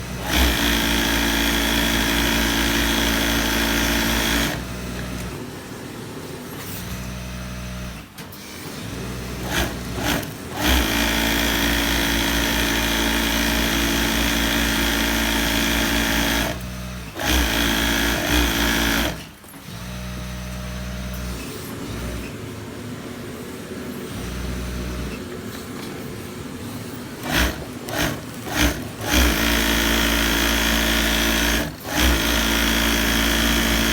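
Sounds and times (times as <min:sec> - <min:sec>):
sewing machine stitching: 0:00.0 - 0:05.4, 0:07.0 - 0:22.3, 0:27.2 - 0:33.9.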